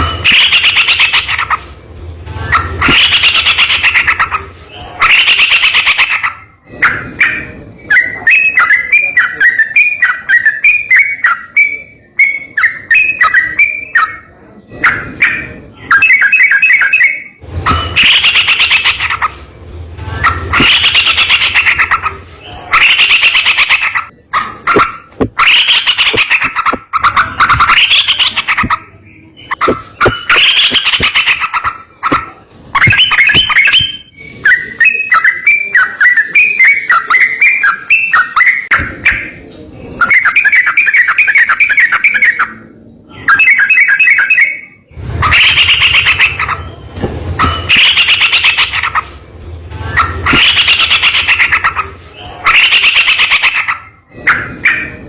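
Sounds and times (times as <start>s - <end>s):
bird singing rolling trills: 0.0s - 1.8s, 2.4s - 19.4s, 20.0s - 49.1s, 49.7s - 55.0s.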